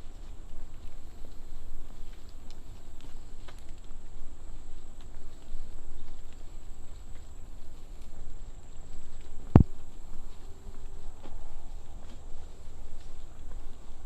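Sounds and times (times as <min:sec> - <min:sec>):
faint footsteps: 0:00.0 - 0:14.0.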